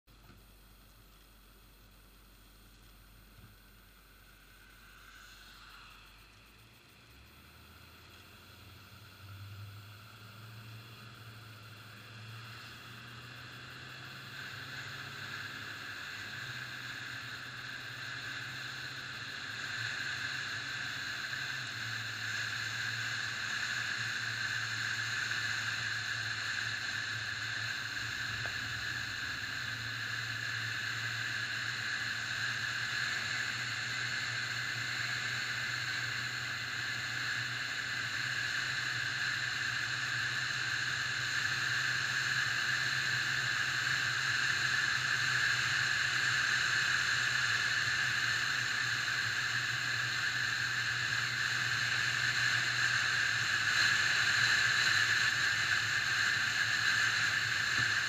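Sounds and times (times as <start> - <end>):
car engine hum: 0.1 - 58.0.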